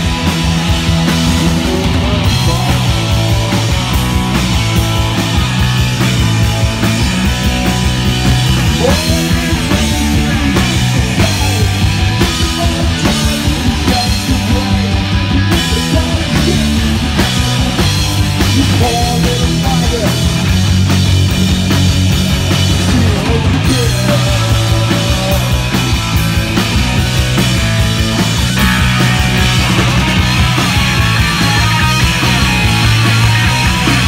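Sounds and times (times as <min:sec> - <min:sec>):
punk rock band playing: 0:00.0 - 0:34.0.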